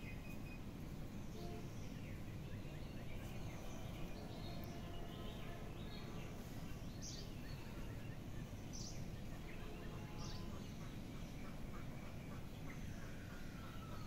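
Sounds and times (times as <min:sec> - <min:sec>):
birds chirping: 0:00.0 - 0:14.0
low hum of outdoor noise: 0:00.0 - 0:14.0.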